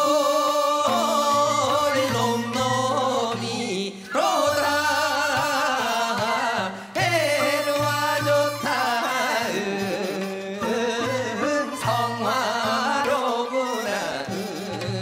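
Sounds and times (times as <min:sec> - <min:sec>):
instrumental accompaniment: 0:00.0 - 0:15.0
man singing folk song: 0:00.0 - 0:15.0.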